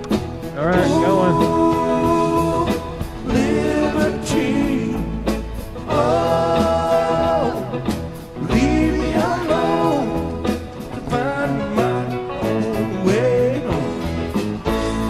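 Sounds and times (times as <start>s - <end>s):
low bass accompaniment: 0.0s - 15.0s
singer holding long notes: 0.6s - 14.1s.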